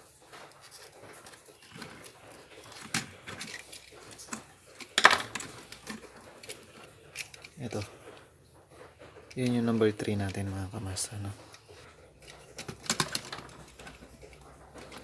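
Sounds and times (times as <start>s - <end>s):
wires and tools clicking: 0.3s - 15.0s.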